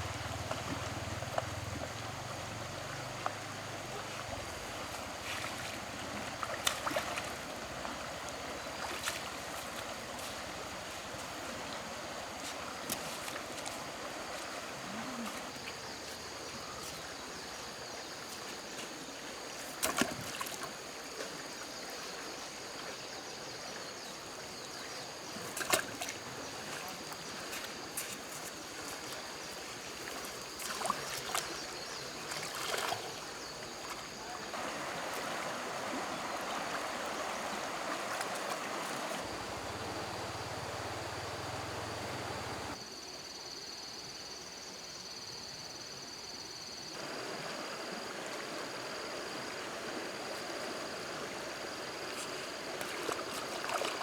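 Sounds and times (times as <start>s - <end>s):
water splashing: 0.0s - 17.4s, 18.2s - 22.1s, 25.4s - 42.8s, 49.3s - 54.0s
running water: 0.0s - 42.8s, 47.0s - 54.0s
rush of water: 0.0s - 42.8s, 47.0s - 54.0s.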